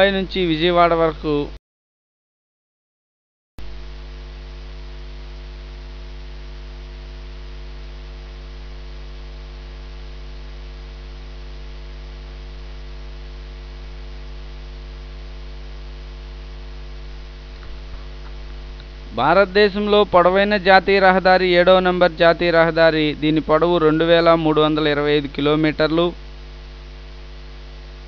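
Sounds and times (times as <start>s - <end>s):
electrical mains hum: 0.0s - 1.6s, 3.6s - 28.0s.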